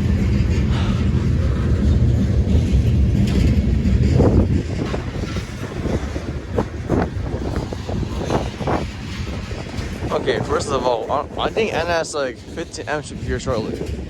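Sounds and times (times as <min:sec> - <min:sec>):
freight train wheels rumbling: 0:00.0 - 0:14.0
train cars clanking: 0:00.0 - 0:14.0.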